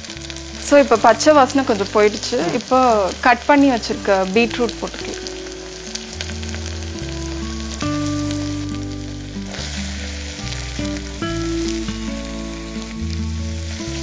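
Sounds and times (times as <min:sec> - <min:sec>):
instrumental background music: 0:00.0 - 0:14.0
onions sizzling in hot oil: 0:00.0 - 0:14.0.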